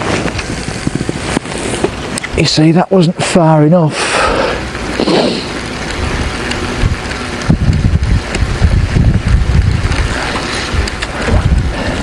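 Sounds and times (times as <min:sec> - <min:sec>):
wind buffeting microphone: 0:00.0 - 0:03.6, 0:04.4 - 0:12.0
faint outdoor hiss: 0:00.0 - 0:12.0.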